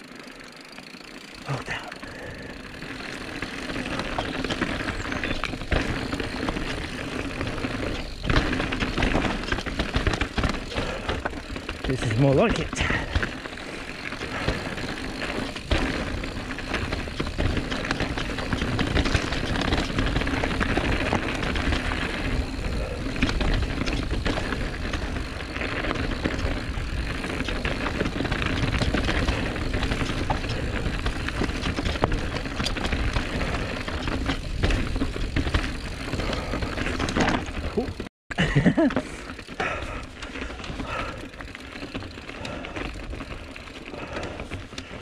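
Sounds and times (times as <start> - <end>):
bike chain and frame clattering: 0.0 - 45.0
tyre noise: 0.8 - 45.0.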